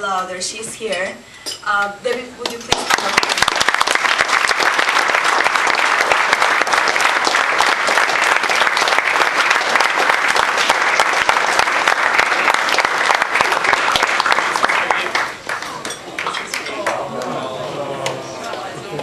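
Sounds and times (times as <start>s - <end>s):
audience applauding: 2.7s - 18.4s.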